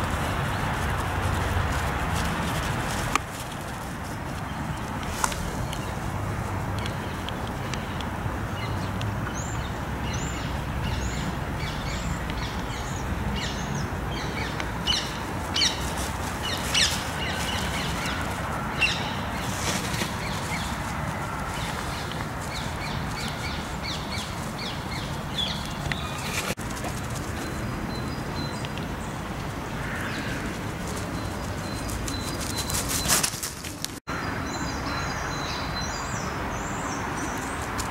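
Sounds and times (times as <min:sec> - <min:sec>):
low rustling background noise: 0:00.0 - 0:34.0
small birds chirping: 0:00.0 - 0:37.9.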